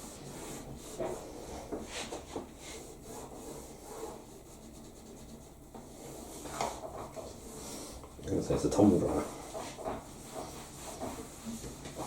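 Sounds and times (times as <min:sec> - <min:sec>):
hand scraping and rubbing surface: 0:00.0 - 0:12.0.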